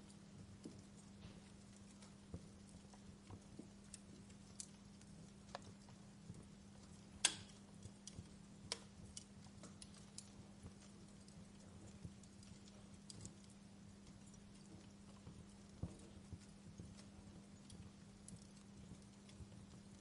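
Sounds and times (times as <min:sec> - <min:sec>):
faint steady hiss: 0:00.0 - 0:20.0
wood fire crackling: 0:00.0 - 0:20.0.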